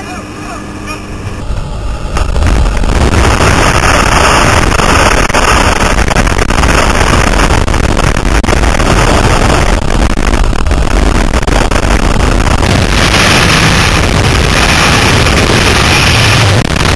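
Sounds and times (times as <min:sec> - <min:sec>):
wind buffeting microphone: 0:00.7 - 0:16.9.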